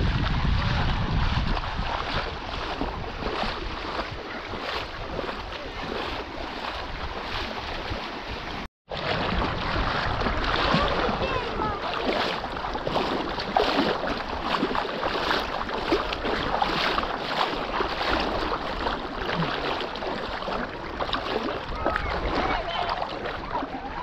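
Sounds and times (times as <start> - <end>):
rushing wind: 0.0 - 22.7
water noise: 0.0 - 24.0
wind buffeting microphone: 0.0 - 24.0.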